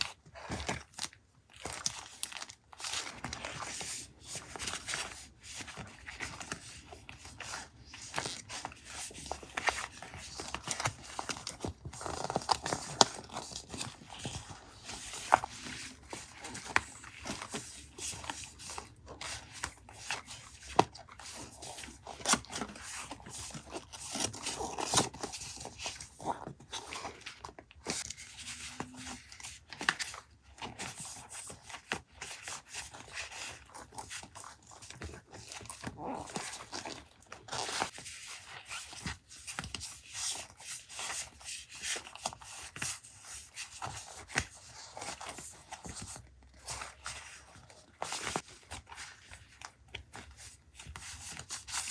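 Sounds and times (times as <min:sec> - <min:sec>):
paper rustling and scraping: 0:00.0 - 0:51.9.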